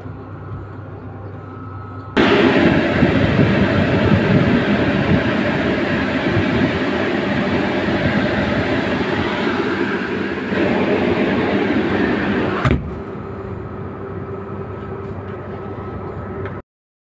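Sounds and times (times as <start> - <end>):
air handling unit motor running: 0.0 - 16.6
thin whine: 0.0 - 16.6.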